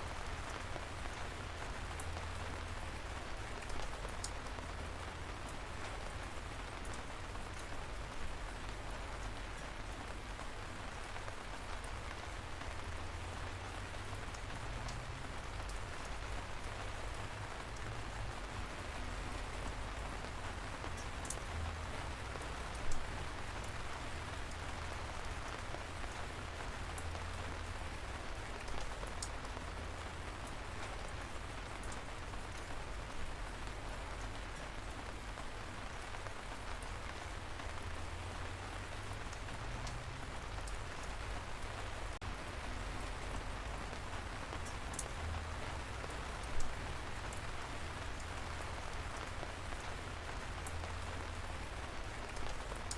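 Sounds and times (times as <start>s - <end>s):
light rain hissing: 10.3s - 52.9s.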